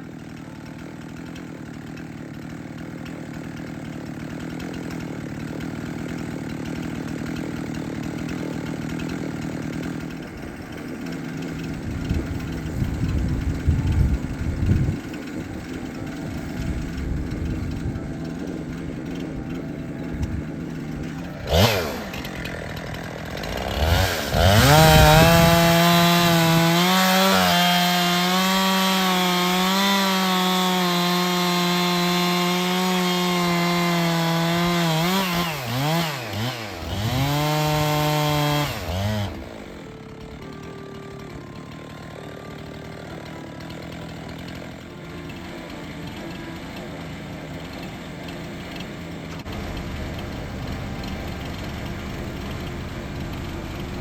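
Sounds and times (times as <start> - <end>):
chainsaw cutting through wood: 0.0 - 54.0
chainsaw idling: 0.0 - 54.0.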